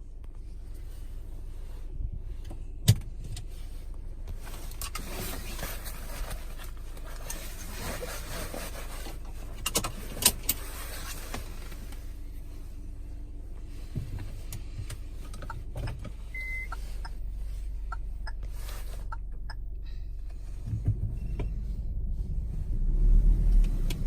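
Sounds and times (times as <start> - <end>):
car engine rumbling with hiss: 0.0 - 24.0.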